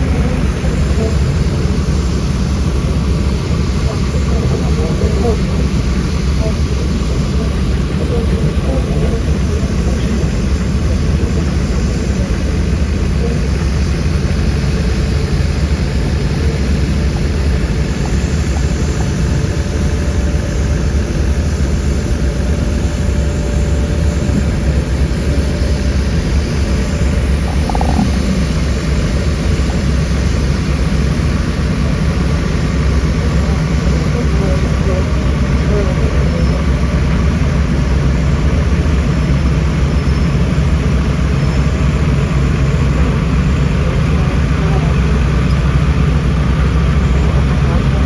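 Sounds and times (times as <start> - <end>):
construction machine diesel engines: 0.0 - 48.0.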